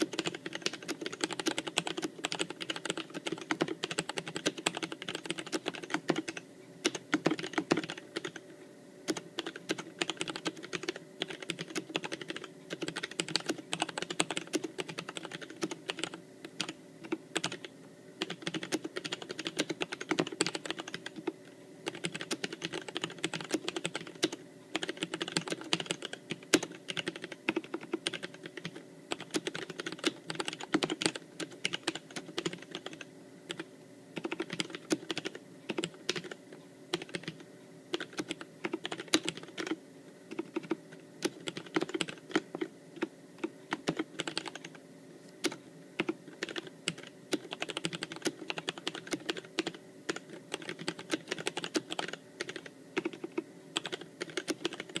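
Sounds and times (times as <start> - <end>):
fast typing on mechanical keyboard: 0.0 - 8.4, 9.1 - 21.3, 21.9 - 42.7, 43.4 - 44.8, 45.4 - 55.0.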